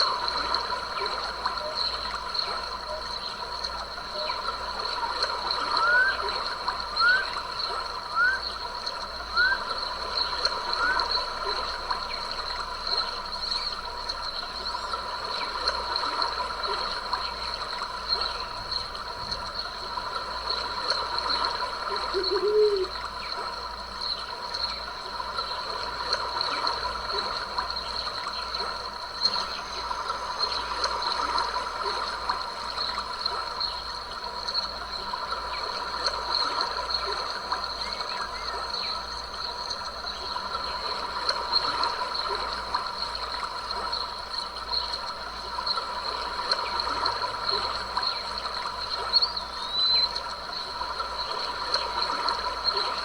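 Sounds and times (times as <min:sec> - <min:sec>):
stream trickling and splashing: 0:00.0 - 0:53.0.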